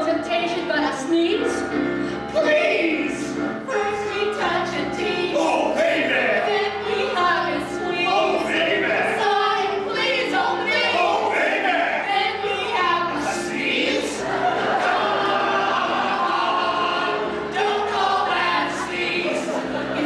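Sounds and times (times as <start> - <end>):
vocal group singing in harmony: 2.1 - 20.0.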